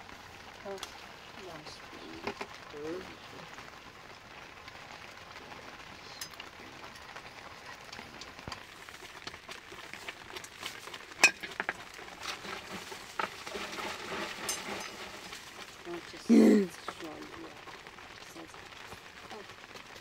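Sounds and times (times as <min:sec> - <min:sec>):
steady hiss: 0:00.0 - 0:20.0
wood fire crackling: 0:00.0 - 0:20.0.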